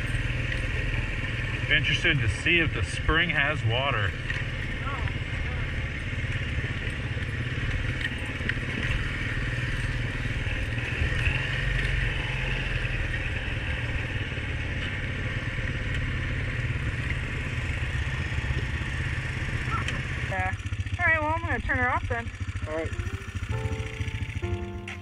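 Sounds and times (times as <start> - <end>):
quad engine running: 0.0 - 25.0.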